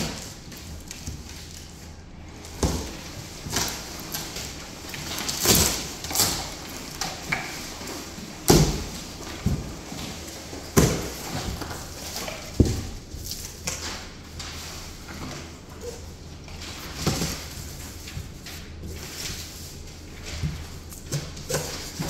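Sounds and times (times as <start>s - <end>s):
plastic wrap rustling: 0.0s - 22.0s.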